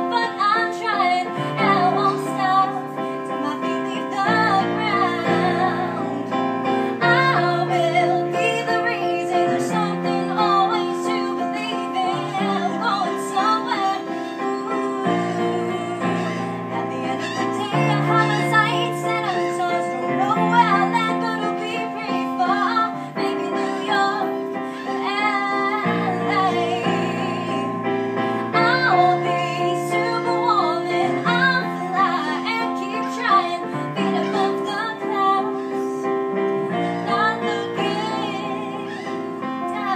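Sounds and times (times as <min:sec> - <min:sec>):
piano chords: 0:00.0 - 0:39.9
woman singing: 0:00.0 - 0:39.9.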